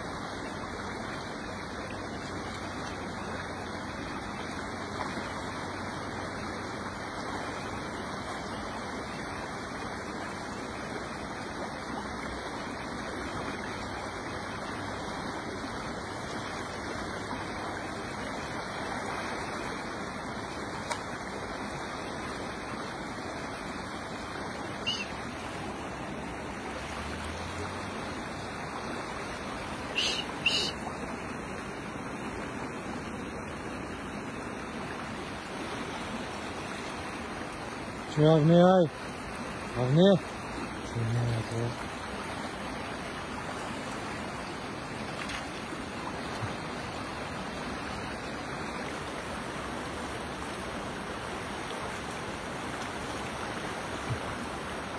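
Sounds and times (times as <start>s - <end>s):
creek water flowing: 0.0s - 54.9s.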